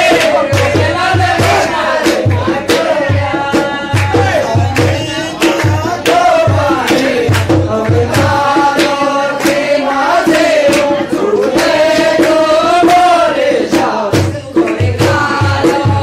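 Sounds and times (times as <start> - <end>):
deep drum beat: 0.0 - 9.3, 10.4 - 16.0
men singing in chorus: 0.0 - 16.0
sharp percussive strikes: 0.0 - 16.0.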